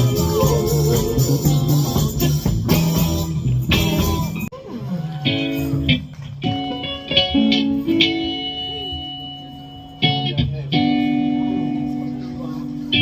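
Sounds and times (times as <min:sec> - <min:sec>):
guitar plucked notes and chords: 0:00.0 - 0:13.0.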